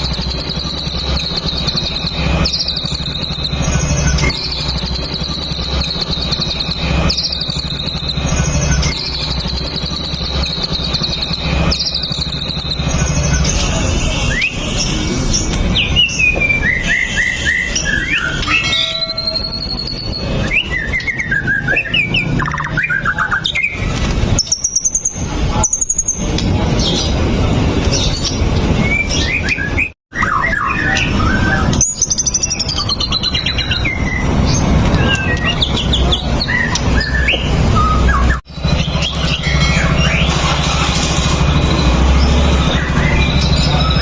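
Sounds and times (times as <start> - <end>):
songbird singing whistles and trills: 0.0 - 13.5, 15.8 - 26.2, 27.9 - 40.3.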